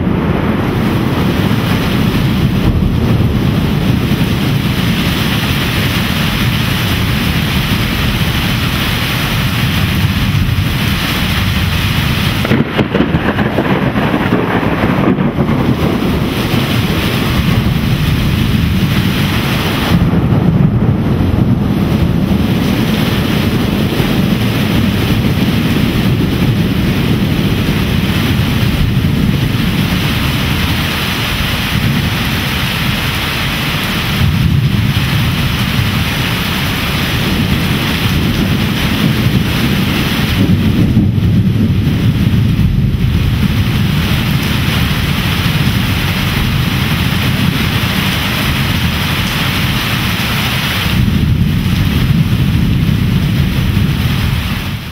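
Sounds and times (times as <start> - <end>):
heavy pouring rain: 0.0 - 54.9
low thunder rumble: 0.0 - 54.9.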